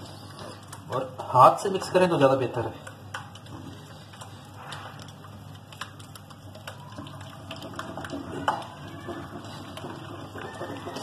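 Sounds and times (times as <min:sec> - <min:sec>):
fingers mixing wet batter: 0:00.0 - 0:11.0.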